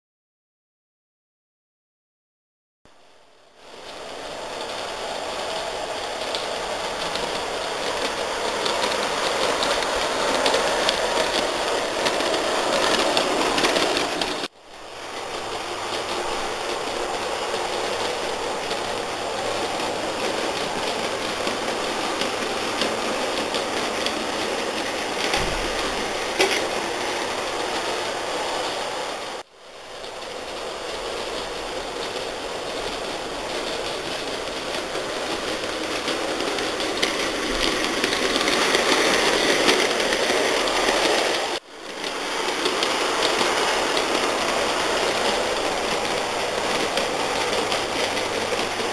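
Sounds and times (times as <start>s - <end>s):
model trains whirring: 3.0s - 48.9s
wheels clicking on rails: 3.6s - 48.9s.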